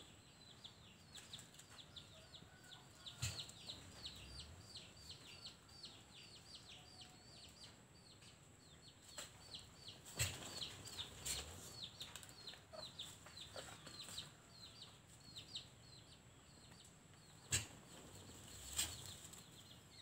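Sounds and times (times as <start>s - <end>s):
birds peeping: 0.0s - 20.0s.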